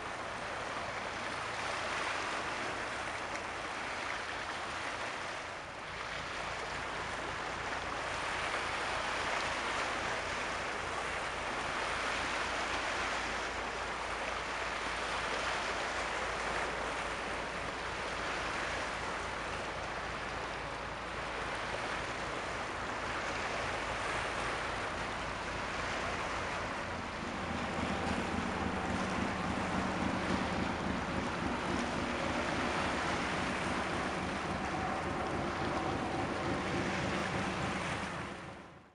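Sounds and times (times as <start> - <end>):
low engine hum: 0.0 - 38.9
sea waves washing: 0.0 - 38.9.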